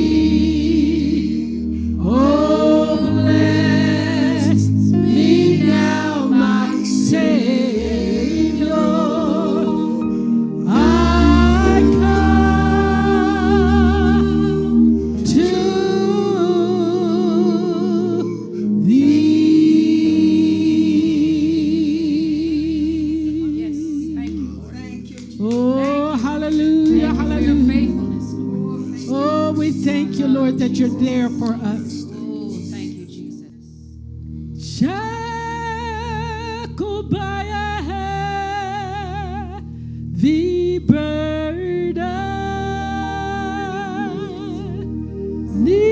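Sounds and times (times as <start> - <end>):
gospel singing with vibrato: 0.0 - 45.9
sustained instrumental chords: 0.0 - 45.9.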